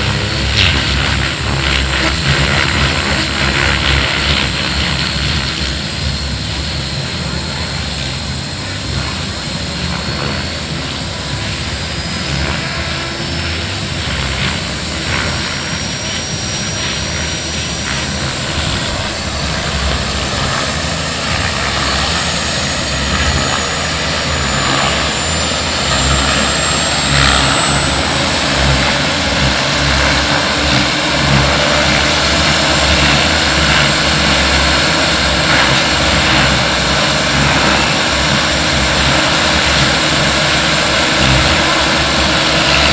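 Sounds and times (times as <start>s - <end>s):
model turbine engine whine: 0.0s - 42.9s.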